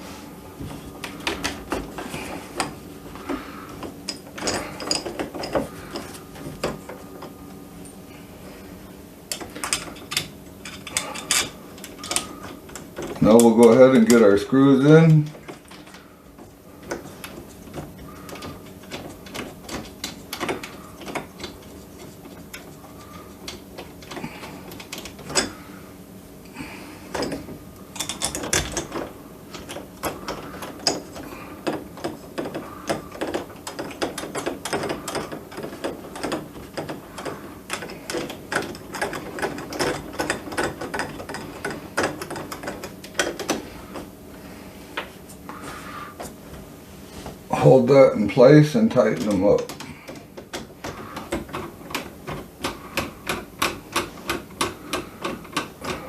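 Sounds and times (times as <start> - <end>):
doorknob parts rattling: 1.0 - 7.3, 9.3 - 25.6, 27.1 - 44.1, 48.9 - 56.0.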